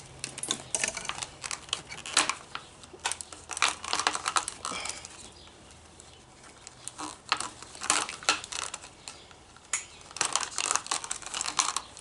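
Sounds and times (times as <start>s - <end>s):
plastic clicks and rustles: 0.2s - 5.4s, 6.0s - 12.0s.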